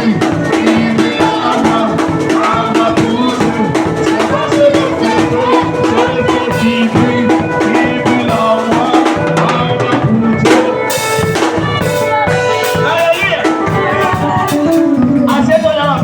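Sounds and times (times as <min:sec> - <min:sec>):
church praise music: 0:00.0 - 0:16.0
drum kit steady beat: 0:00.0 - 0:16.0.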